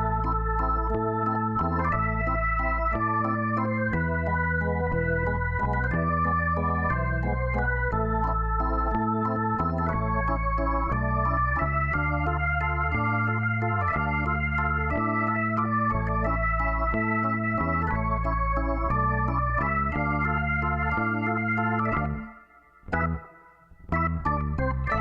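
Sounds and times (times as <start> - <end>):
bass line: 0.0 - 25.0
organ-like keyboard chords: 0.0 - 25.0.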